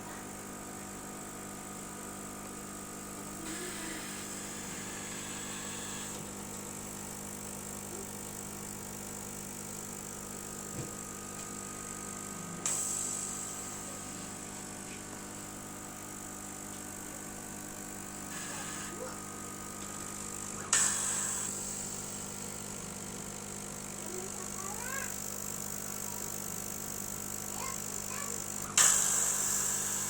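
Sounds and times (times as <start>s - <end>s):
laser cutter humming: 0.0s - 30.0s.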